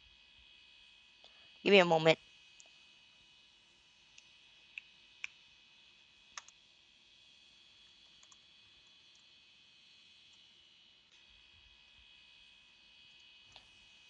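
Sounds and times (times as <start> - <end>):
faint high-pitched hum: 0.0 - 14.0.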